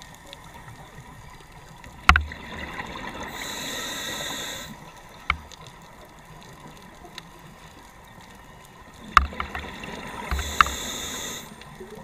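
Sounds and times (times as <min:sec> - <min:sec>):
sharp clicks underwater: 0:00.1 - 0:12.0.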